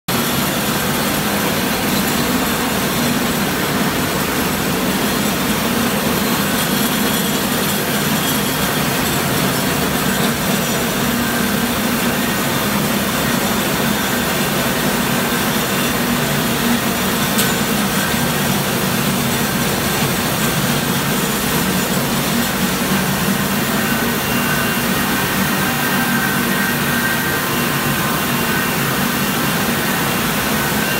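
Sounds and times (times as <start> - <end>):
milling machines clattering: 0.1 - 30.9.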